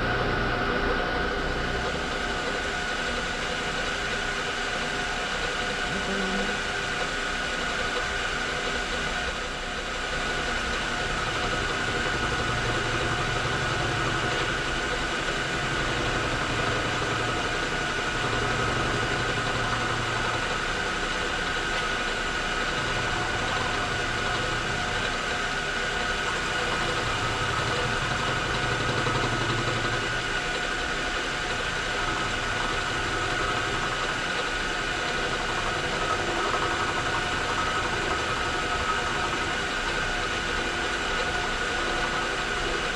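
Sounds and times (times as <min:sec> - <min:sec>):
machine tool high whine: 0:00.0 - 0:42.9.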